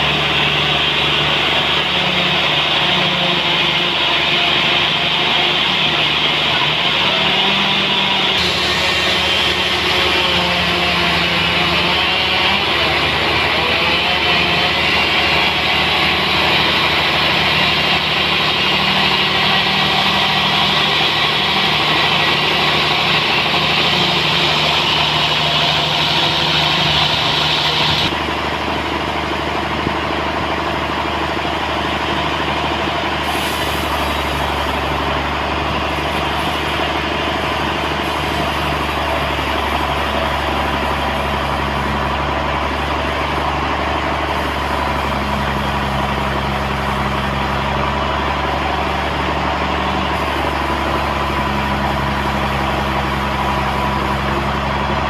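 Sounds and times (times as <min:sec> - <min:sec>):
high-pitched machine whine: 0:00.0 - 0:55.0
sawmill machinery drone: 0:00.0 - 0:55.0.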